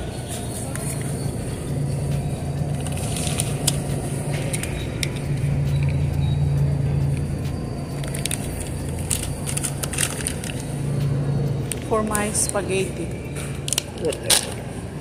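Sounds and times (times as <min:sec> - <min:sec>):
low rumbling hum: 0:00.0 - 0:15.0.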